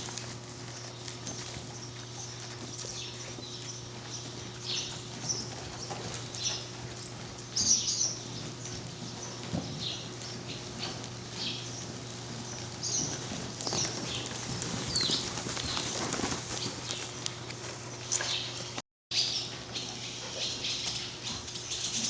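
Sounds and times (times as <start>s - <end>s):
horse hooves scraping on hard floor: 0.0s - 18.8s
low electrical hum: 0.0s - 22.0s.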